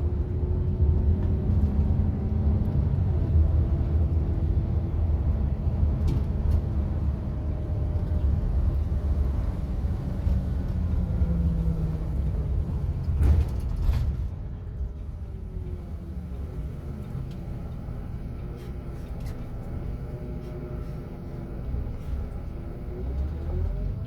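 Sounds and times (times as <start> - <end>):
engine and road rumble: 0.0 - 24.0.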